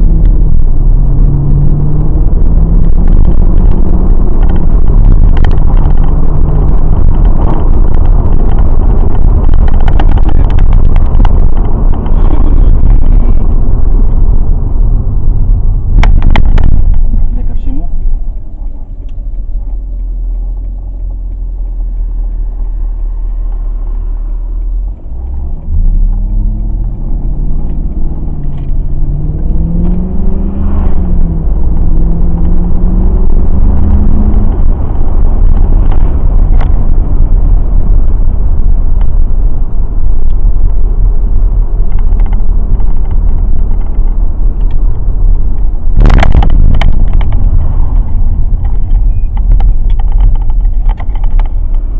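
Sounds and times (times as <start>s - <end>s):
car engine running: 0.0s - 51.9s.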